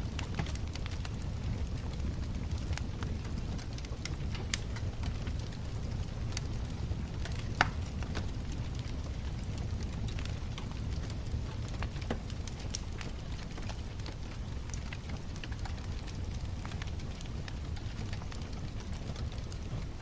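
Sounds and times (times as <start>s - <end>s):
bonfire flames rumbling: 0.0s - 20.0s
wood crackling and popping: 0.0s - 20.0s.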